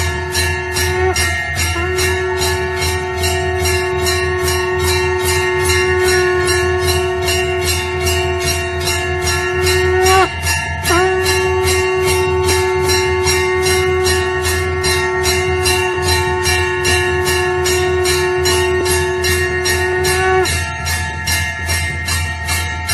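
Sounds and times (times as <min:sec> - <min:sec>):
conch shell blown: 0:00.0 - 0:22.2
temple bell ringing: 0:00.0 - 0:22.9.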